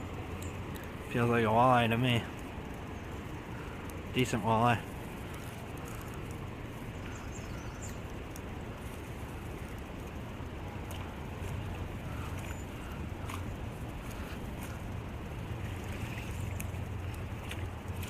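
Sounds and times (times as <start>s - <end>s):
river current rushing: 0.0s - 18.0s
wind rumble on microphone: 0.0s - 18.0s.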